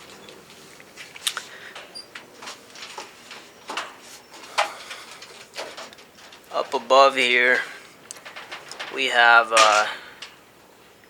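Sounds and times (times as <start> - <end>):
pigeons clicking and scuffing: 0.0 - 10.5.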